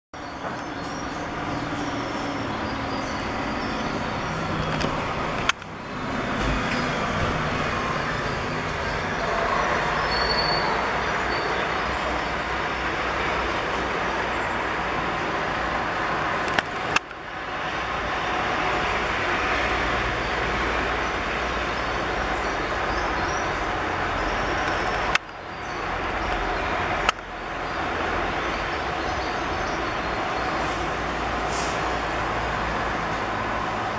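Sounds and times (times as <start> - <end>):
bus driving past: 0.2 - 33.9
street traffic noise: 0.2 - 33.9.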